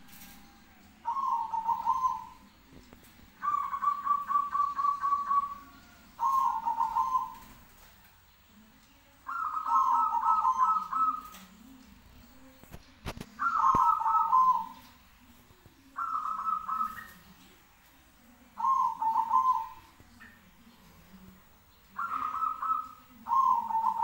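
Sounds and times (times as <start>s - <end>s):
doves cooing: 0.0s - 8.1s, 9.2s - 17.5s, 18.5s - 24.0s.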